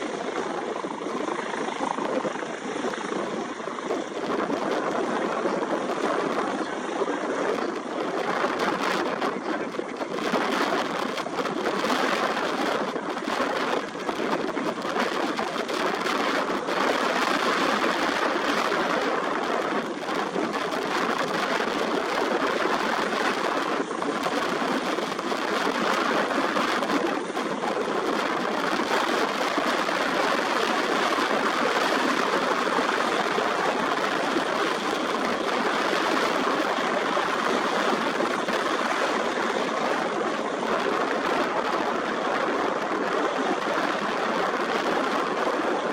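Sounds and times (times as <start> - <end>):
helicopter rushing noise: 0.0 - 45.9.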